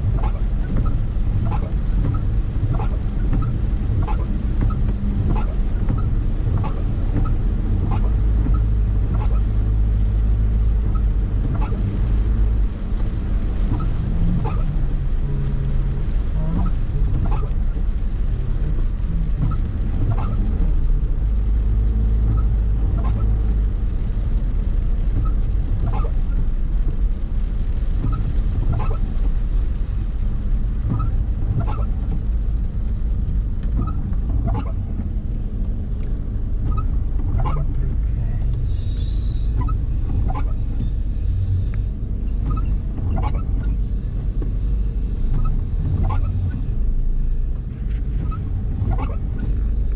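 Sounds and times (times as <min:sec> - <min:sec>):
car engine and road rumble: 0:00.0 - 0:49.9.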